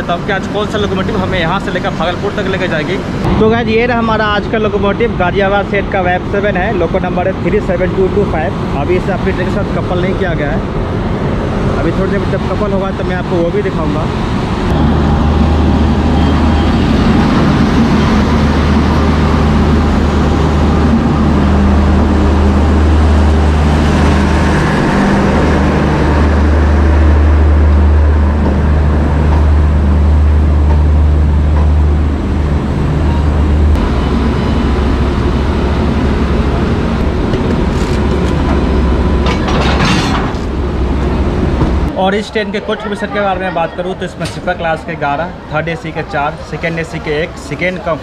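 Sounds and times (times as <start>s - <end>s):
train machinery droning: 0.0s - 42.0s.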